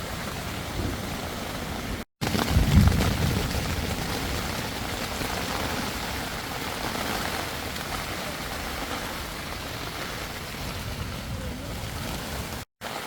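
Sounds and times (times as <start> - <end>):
gusty wind rumble: 0.0 - 12.6
heavy rain pouring: 0.0 - 13.0.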